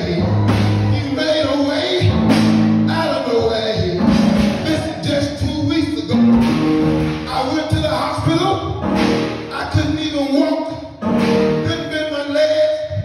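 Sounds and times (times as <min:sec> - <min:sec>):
man preaching into a microphone: 0:00.0 - 0:06.4, 0:07.1 - 0:13.0
church band music: 0:00.0 - 0:13.0.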